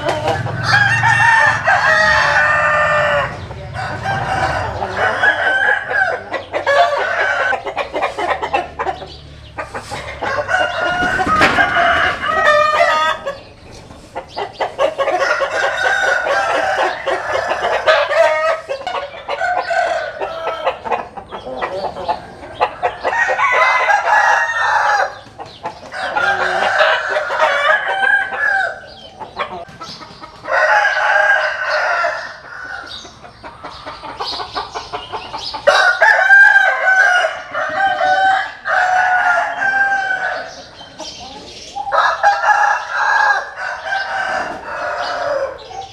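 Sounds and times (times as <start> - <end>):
hens clucking: 0.0 - 45.9
roosters crowing: 0.0 - 45.9.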